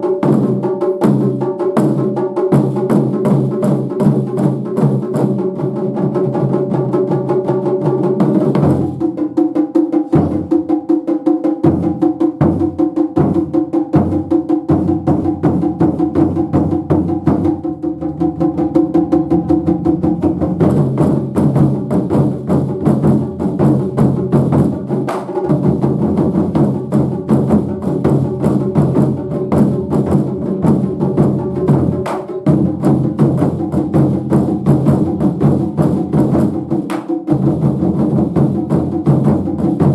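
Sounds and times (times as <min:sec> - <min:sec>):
taiko drums ensemble: 0:00.0 - 0:39.9.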